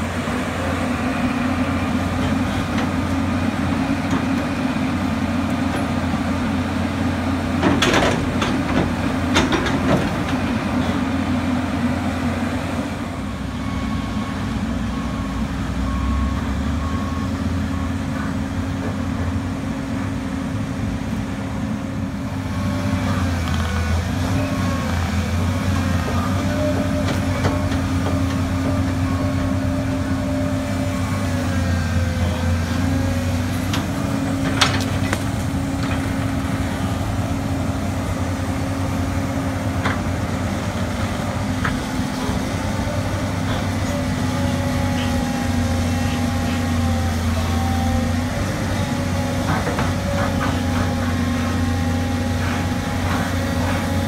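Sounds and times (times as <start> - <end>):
excavator diesel engines running: 0.0 - 54.0.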